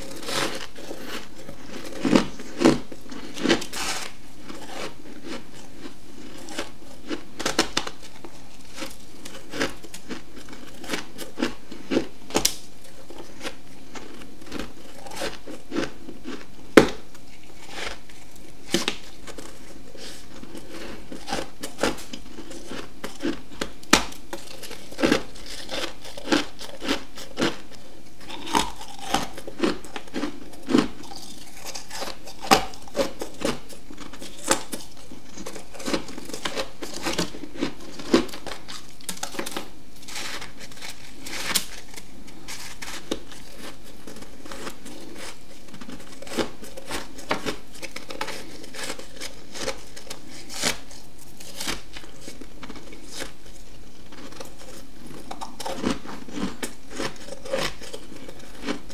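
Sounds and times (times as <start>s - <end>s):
crunchy biting and chewing of frost: 0.0s - 58.9s.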